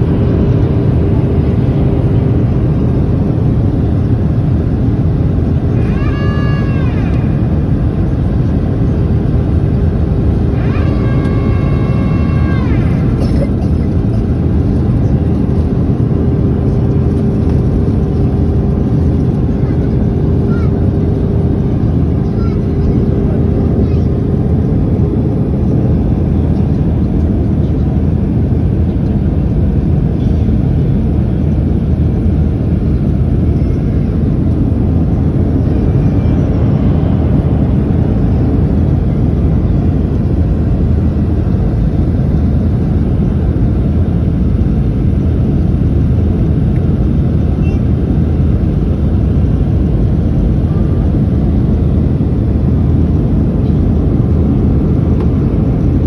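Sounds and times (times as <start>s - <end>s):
airplane engines rumbling in cabin: 0.0s - 56.0s.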